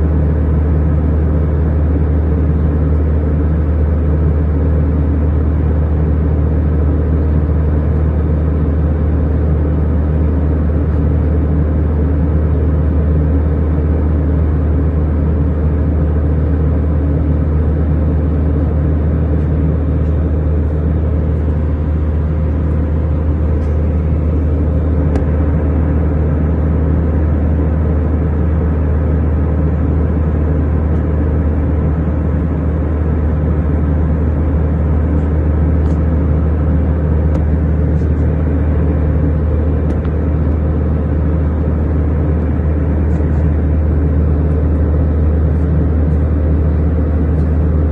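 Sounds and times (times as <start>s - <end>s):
airliner engine and airflow rumble: 0.0s - 47.9s
faint steady hum: 0.0s - 47.9s.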